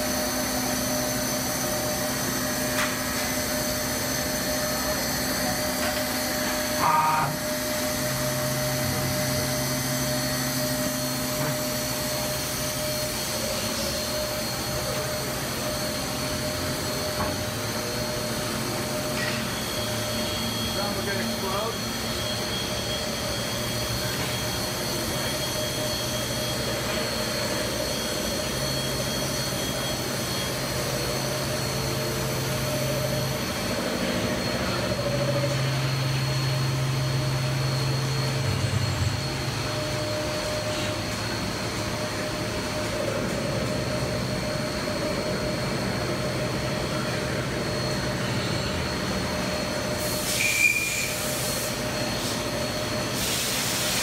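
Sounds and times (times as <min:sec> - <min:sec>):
machine-shop machinery drone: 0:00.0 - 0:54.0
steady whining tones: 0:00.0 - 0:54.0.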